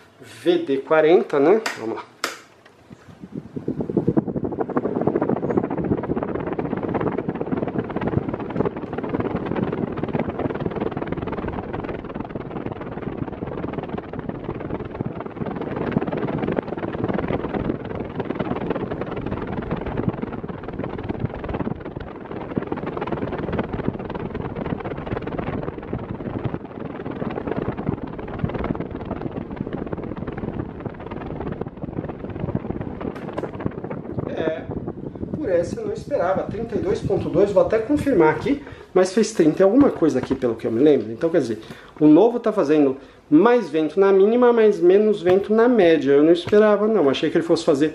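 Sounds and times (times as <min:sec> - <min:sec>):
fan wind buffeting microphone: 0:00.0 - 0:47.9.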